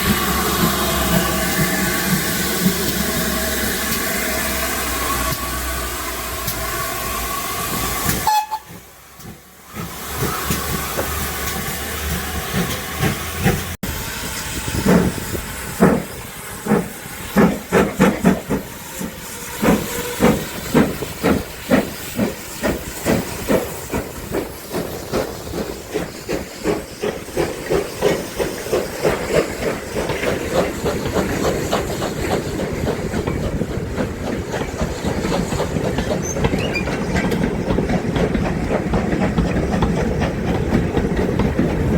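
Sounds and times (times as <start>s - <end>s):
steam hissing: 0.0s - 41.9s
steam locomotive chuffing: 0.0s - 41.9s.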